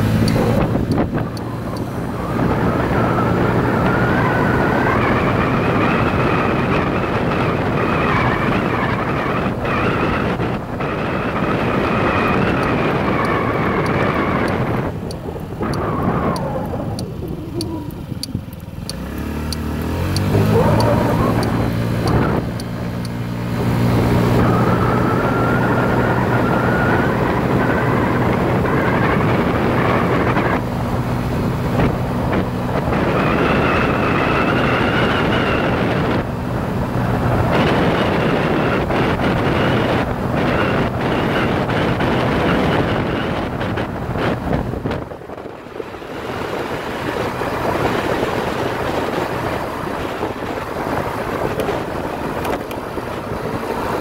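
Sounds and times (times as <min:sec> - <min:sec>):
motorcycle engine accelerating: 0:00.0 - 0:54.0
wind rushing over microphone: 0:00.0 - 0:54.0.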